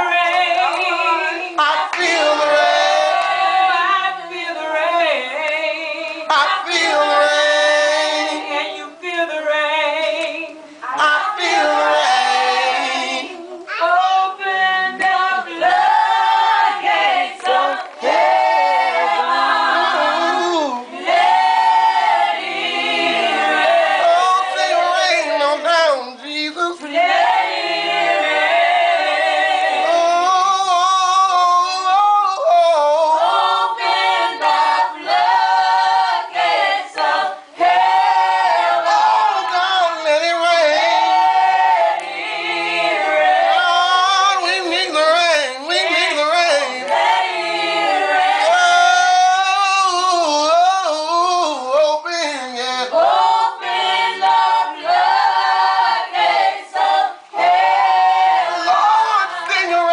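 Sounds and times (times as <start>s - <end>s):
group singing gospel song: 0.0s - 59.9s.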